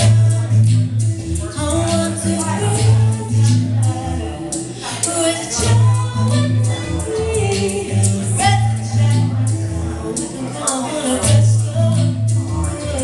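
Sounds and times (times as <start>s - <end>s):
person singing: 0.0s - 13.0s
sustained bass notes: 0.0s - 13.0s.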